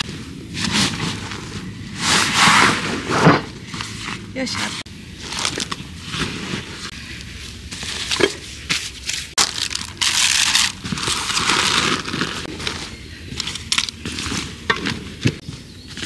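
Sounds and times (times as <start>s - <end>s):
bags and fabric rustling: 0.0s - 16.0s.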